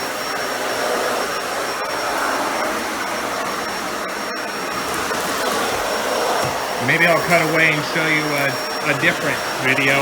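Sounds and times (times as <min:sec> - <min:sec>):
thin high whine: 0:00.0 - 0:10.0
vacuum cleaner running: 0:00.0 - 0:10.0.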